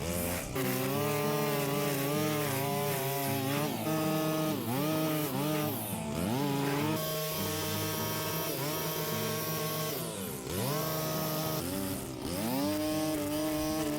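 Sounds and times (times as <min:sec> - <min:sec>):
string trimmer running: 0:00.0 - 0:13.9.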